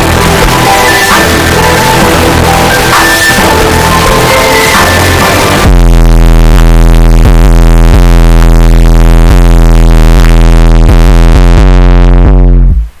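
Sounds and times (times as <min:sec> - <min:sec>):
distorted synth bass line: 0:00.0 - 0:13.0.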